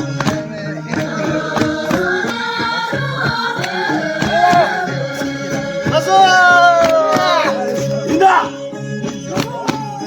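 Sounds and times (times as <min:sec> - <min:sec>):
song with singing and beat: 0:00.0 - 0:10.0.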